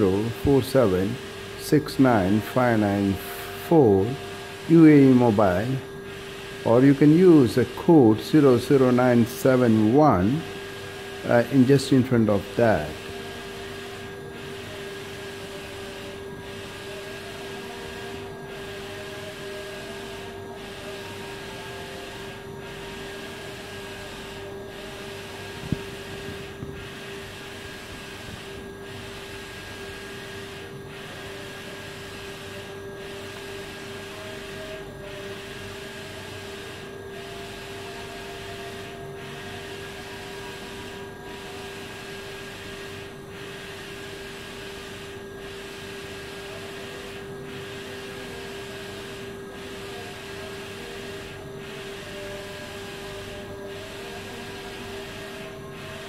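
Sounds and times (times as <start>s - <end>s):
inkjet printer whirring: 0.0s - 56.0s.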